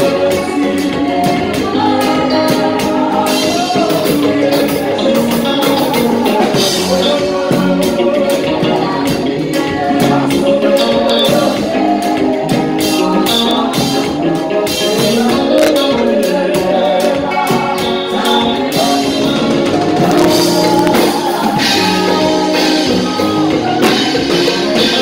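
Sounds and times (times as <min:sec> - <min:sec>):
drum kit playing a groove: 0:00.0 - 0:25.0
keyboard: 0:00.0 - 0:25.0
person singing: 0:00.0 - 0:25.0.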